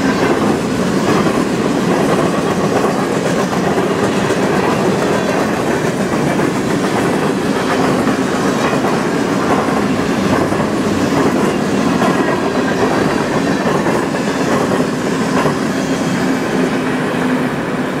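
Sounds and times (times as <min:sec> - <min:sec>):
rail clicks: 0:00.0 - 0:18.0
wheel-on-rail noise: 0:00.0 - 0:18.0.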